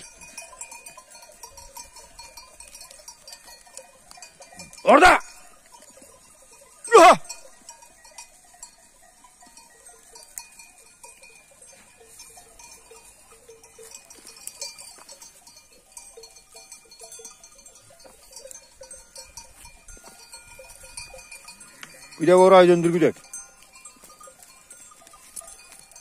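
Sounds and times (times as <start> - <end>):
sheep bells clanking: 0.0 - 26.0.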